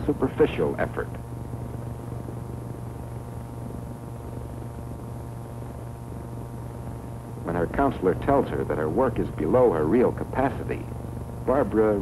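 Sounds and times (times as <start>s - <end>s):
film soundtrack hum and hiss: 0.0s - 12.0s.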